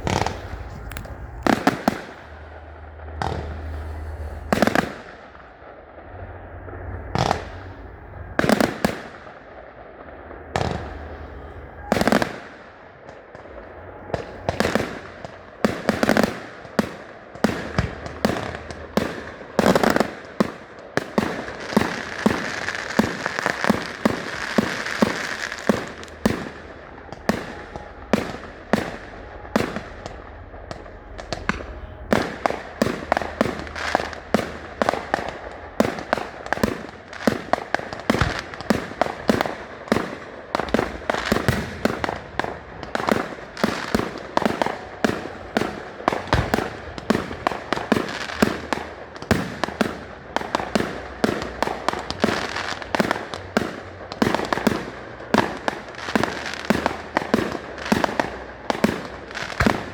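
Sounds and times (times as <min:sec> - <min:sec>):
fireworks bangs and cracks: 0:00.0 - 0:59.9
fireworks crackle and hiss: 0:00.0 - 0:59.9.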